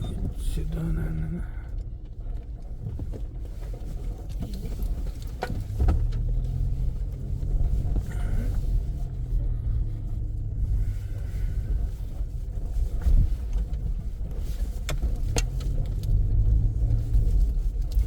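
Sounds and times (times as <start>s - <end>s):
car rumbling on rough road: 0.0s - 18.0s.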